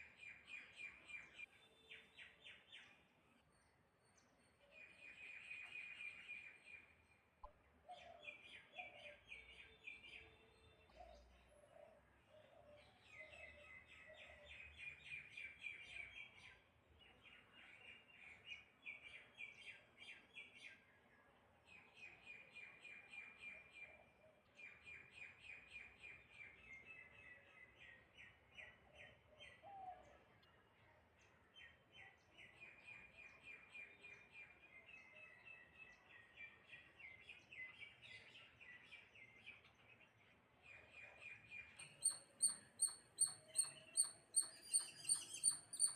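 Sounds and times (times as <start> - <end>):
faint small birds chirping: 0.0 - 45.9.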